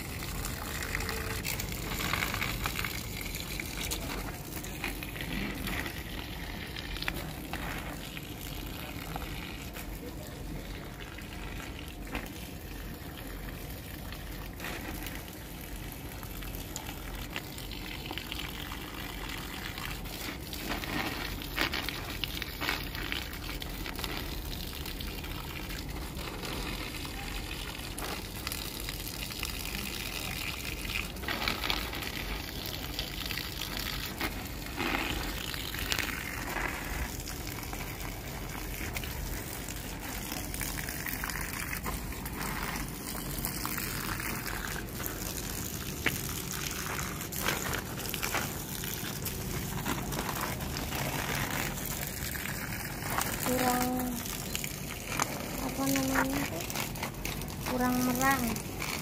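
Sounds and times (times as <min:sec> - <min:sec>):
garden hose spraying water: 0:00.0 - 0:59.0.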